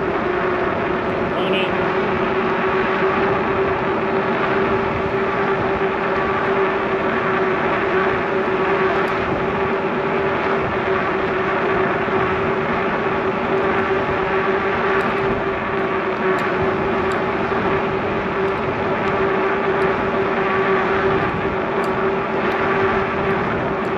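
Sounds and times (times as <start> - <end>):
constant low hum: 0.0 - 23.9
bicycle rolling noise: 2.0 - 23.9.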